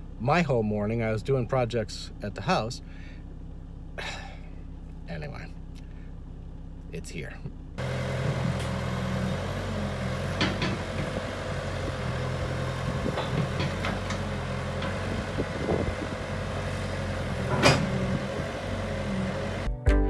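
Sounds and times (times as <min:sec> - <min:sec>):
diesel engine running: 0:00.0 - 0:19.7.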